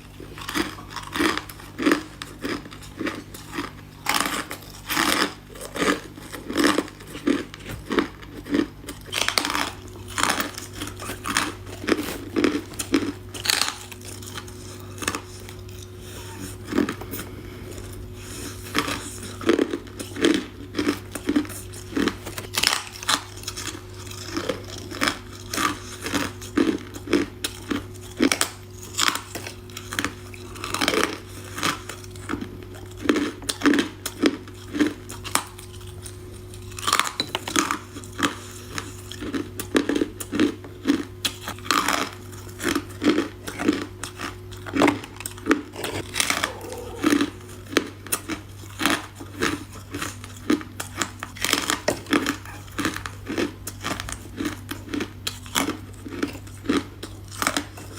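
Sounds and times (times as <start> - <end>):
faint steady hum: 0.0 - 57.9
person chewing ice cubes: 0.0 - 57.9.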